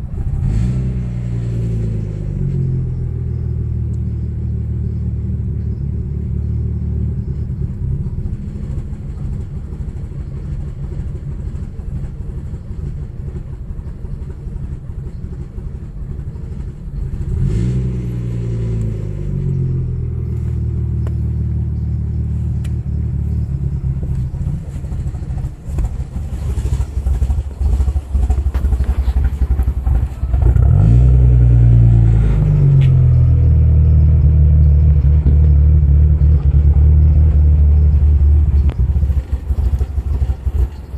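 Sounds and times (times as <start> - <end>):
car engine revving: 0.0 - 10.1, 16.6 - 40.9
car engine idling with misfire: 0.0 - 40.9.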